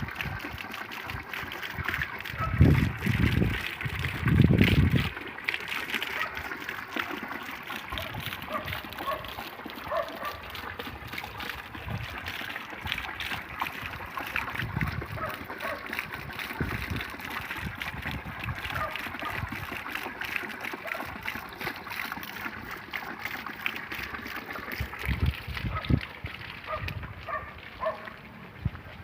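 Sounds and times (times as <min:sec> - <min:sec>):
rainwater running and splashing: 0:00.0 - 0:29.0.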